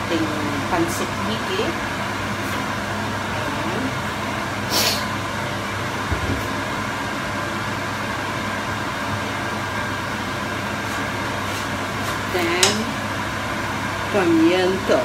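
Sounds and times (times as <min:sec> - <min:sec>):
fan-like hum with hiss: 0:00.0 - 0:15.0.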